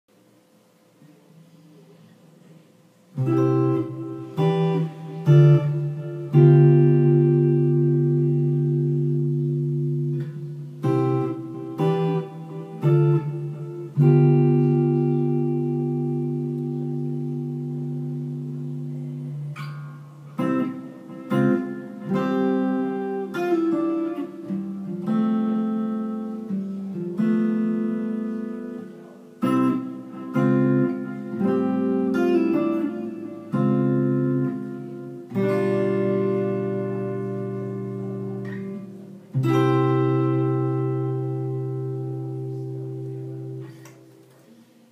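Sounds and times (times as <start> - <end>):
electric guitar picked notes: 1.4 - 44.9
electric guitar chords ringing: 3.1 - 44.6.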